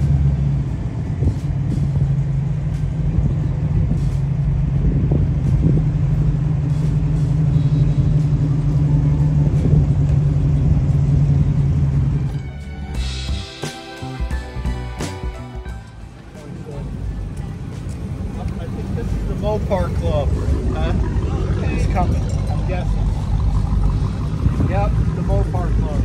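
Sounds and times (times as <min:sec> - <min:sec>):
car engine passing slowly: 0:00.0 - 0:13.4, 0:14.2 - 0:26.0.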